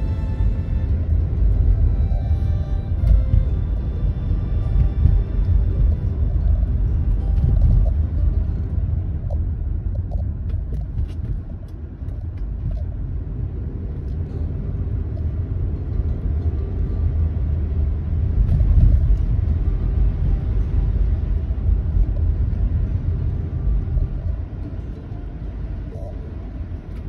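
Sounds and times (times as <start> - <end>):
car interior engine and road noise: 0.0 - 27.0.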